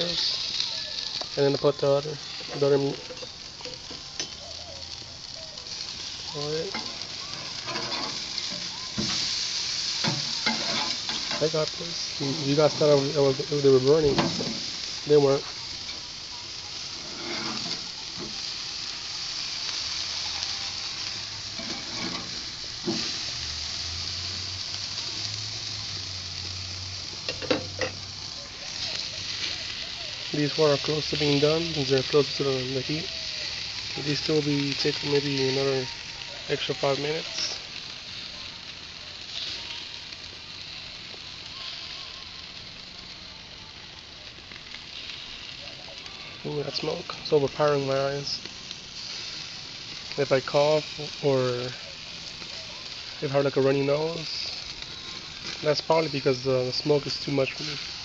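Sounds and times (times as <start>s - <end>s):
patties sizzling on charcoal: 0.0s - 58.0s.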